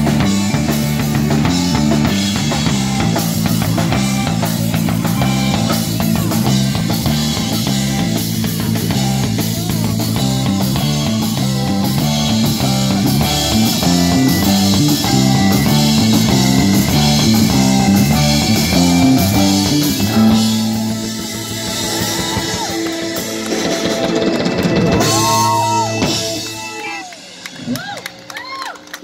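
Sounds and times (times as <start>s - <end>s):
drum kit: 0.0s - 28.6s
bass guitar: 0.0s - 29.0s
electric guitars: 0.0s - 29.0s.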